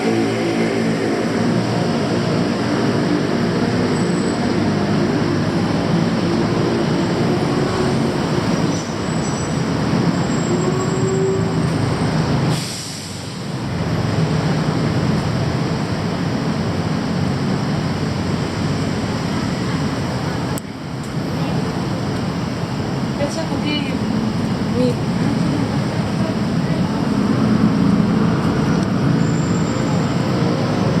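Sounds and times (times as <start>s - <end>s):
heavy vehicle rumble: 0.0s - 31.0s.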